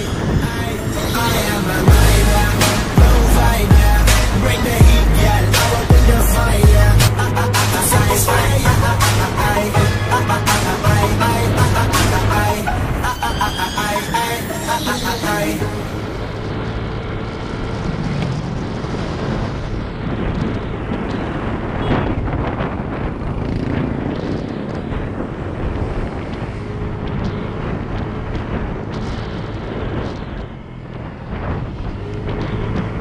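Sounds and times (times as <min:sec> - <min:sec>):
low engine drone: 0:00.0 - 0:33.0
road noise: 0:00.0 - 0:33.0
wind buffeting microphone: 0:00.0 - 0:33.0.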